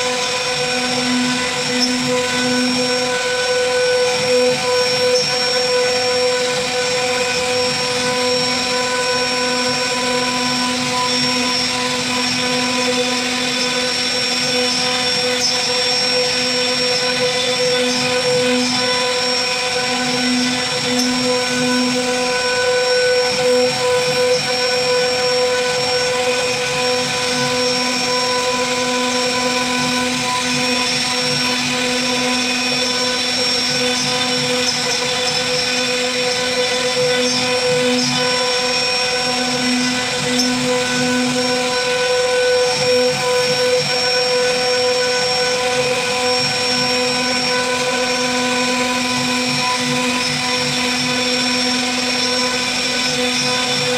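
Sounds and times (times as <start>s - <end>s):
wood router spindle whining: 0.0s - 53.9s.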